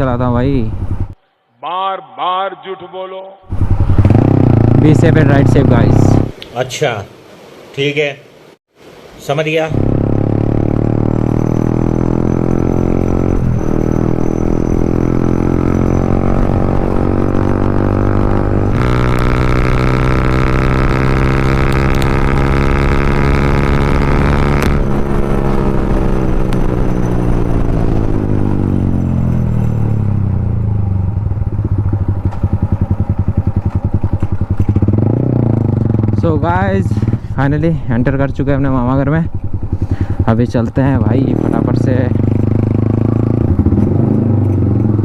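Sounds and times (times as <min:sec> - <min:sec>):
motorcycle engine accelerating: 0:03.5 - 0:06.4, 0:09.7 - 0:45.0.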